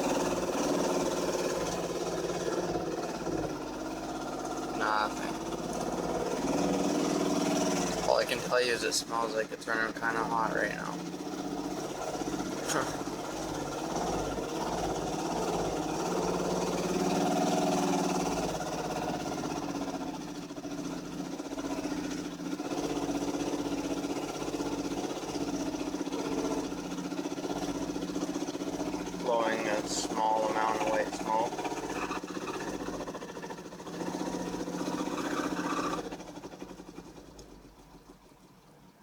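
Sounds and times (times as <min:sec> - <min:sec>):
car engine idling roughly: 0:00.0 - 0:39.0.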